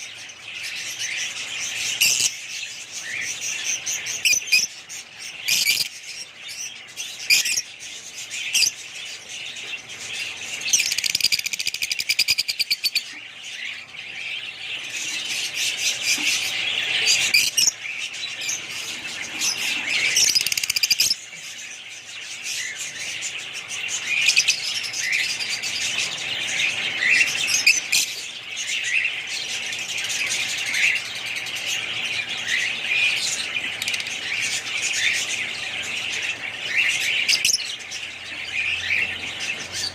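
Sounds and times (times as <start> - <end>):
rapid bird trill: 0.0 - 39.9
small birds chirping and chattering: 0.0 - 39.9.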